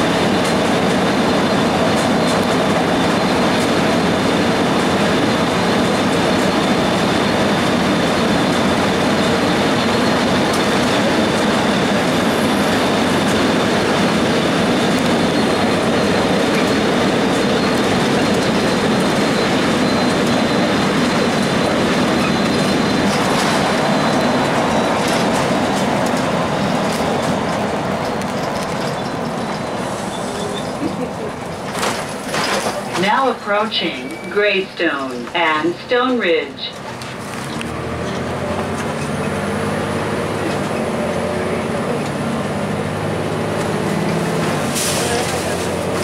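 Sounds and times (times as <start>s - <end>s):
bus engine tyre and wind rumble: 0.0s - 46.0s.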